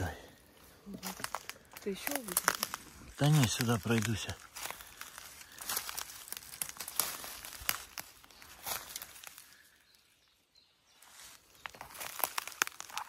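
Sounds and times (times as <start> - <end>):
footsteps crunching on dry leaves: 0.0 - 9.8, 10.9 - 13.0.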